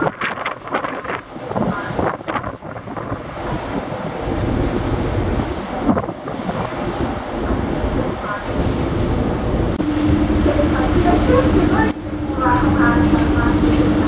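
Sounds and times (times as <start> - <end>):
low rumble: 0.0 - 14.0
sea rushing: 0.0 - 14.0
wind buffeting microphone: 0.0 - 14.0.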